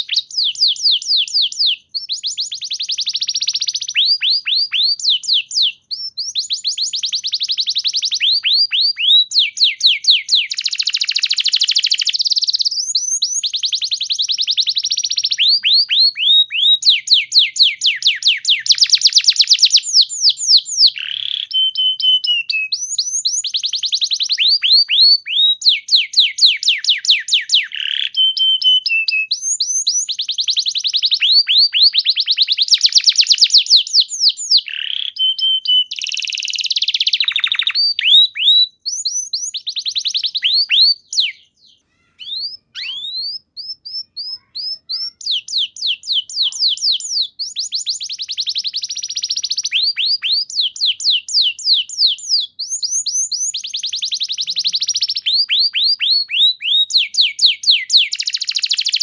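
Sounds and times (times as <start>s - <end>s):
canary singing fast trills: 0.0s - 59.0s.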